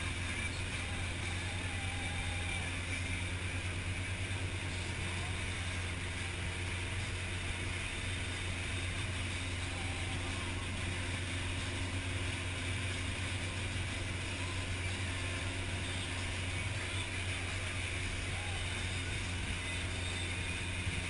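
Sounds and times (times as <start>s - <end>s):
motorboat engine hum: 0.0s - 21.0s.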